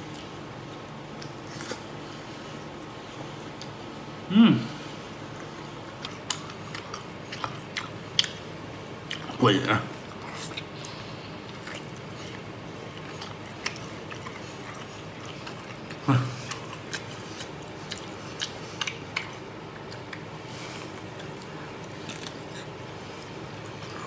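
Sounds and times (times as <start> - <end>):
person chewing with wet smacking: 1.1 - 3.8, 5.1 - 24.0.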